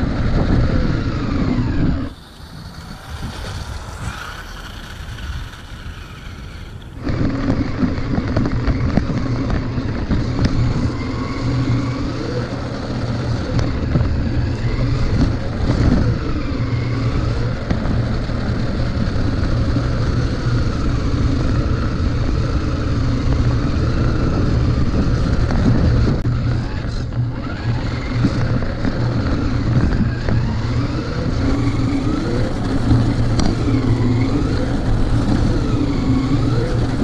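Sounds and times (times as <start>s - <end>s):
rattling over ground: 0.0s - 37.0s
toy truck motor whine: 0.0s - 37.0s
wind noise: 0.0s - 37.0s.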